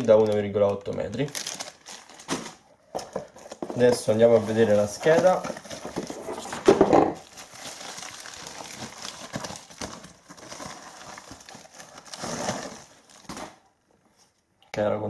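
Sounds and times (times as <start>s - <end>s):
plastic packaging rustling: 0.0s - 14.3s.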